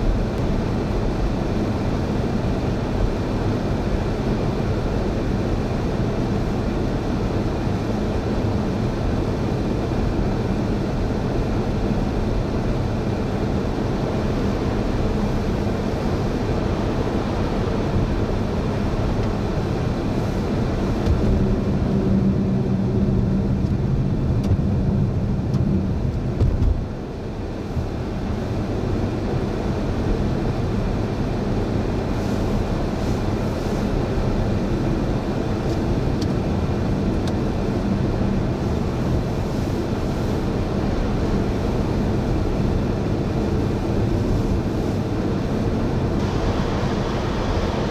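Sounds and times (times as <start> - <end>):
vehicle road and engine noise: 0.0 - 47.9.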